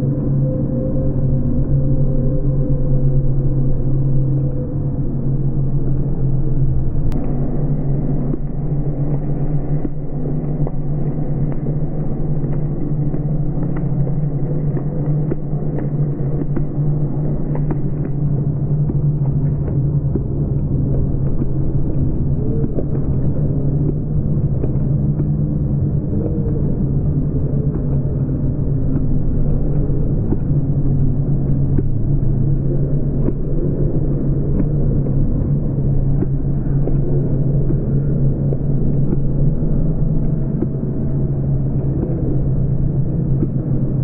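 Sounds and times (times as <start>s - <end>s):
low steady rumble: 0.0s - 44.0s.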